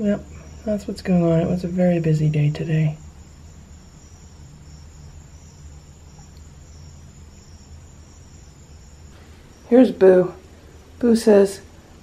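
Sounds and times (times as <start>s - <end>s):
crickets chirping: 0.0s - 12.0s
low hum: 0.0s - 12.0s.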